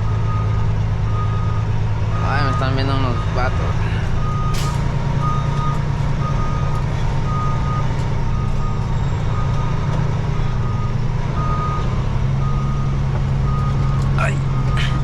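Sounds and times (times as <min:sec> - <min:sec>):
truck backup alarm beeping: 0:00.0 - 0:15.0
truck engine drone: 0:00.0 - 0:15.0.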